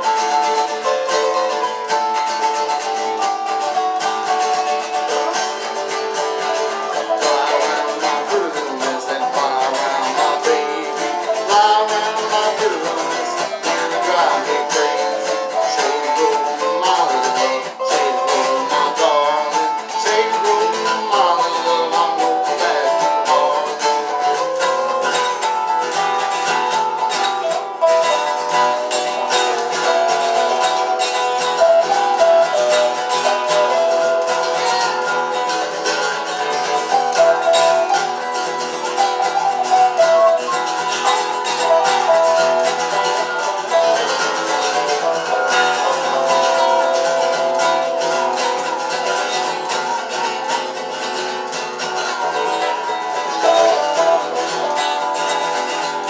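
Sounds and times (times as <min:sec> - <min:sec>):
acoustic plucked strings melody: 0:00.0 - 0:56.0.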